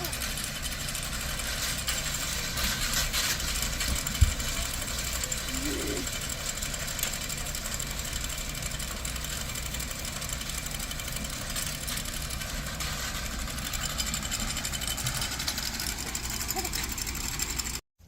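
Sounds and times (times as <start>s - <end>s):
baler mechanism clattering: 0.0s - 17.8s
tractor engine running: 0.0s - 17.8s.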